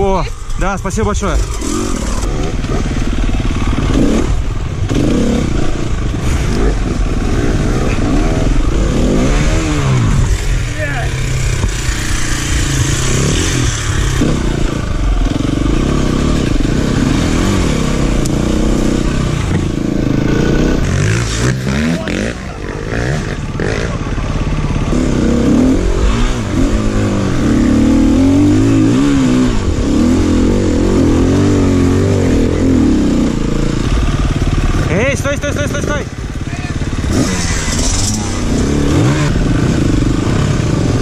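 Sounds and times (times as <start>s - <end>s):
dirt bike engine revving: 0.0s - 41.0s
other dirt bikes revving: 0.0s - 41.0s.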